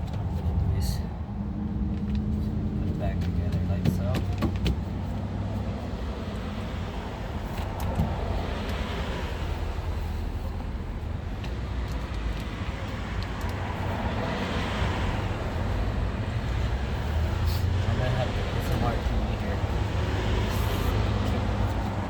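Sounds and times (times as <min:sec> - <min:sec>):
road traffic rumble: 0:00.0 - 0:22.0
vehicles passing: 0:00.0 - 0:22.0.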